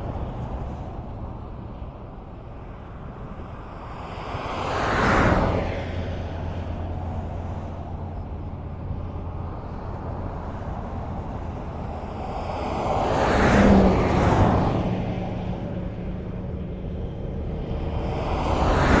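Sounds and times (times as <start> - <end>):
highway traffic rush: 0.0 - 19.0.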